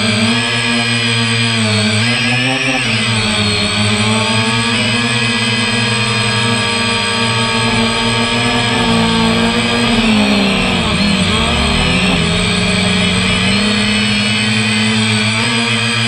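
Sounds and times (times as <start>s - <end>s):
drone motors whining: 1.0s - 16.0s.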